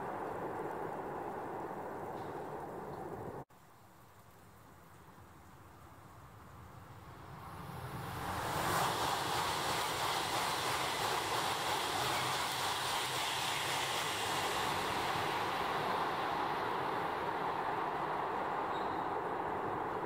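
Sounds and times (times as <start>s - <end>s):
high-speed train rushing past: 0.0s - 3.4s, 6.9s - 20.0s.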